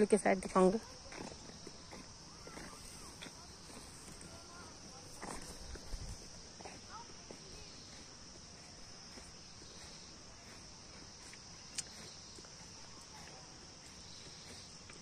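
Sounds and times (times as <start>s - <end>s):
high-pitched insect trilling: 0.0s - 15.0s.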